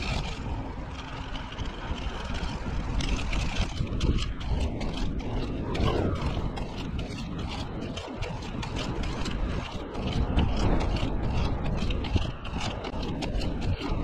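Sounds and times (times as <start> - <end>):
skate wheels rattling on pavement: 0.0 - 14.0.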